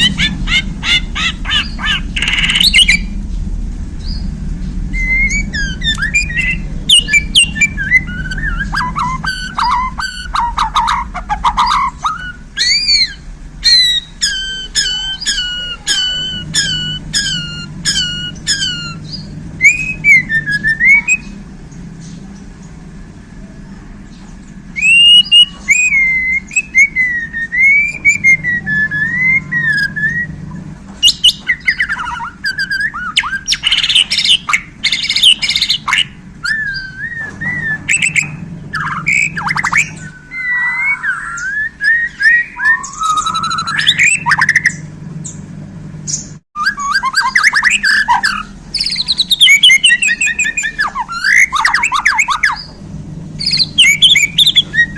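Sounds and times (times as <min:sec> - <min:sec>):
songbird singing chirps and trills: 0:00.0 - 0:54.9.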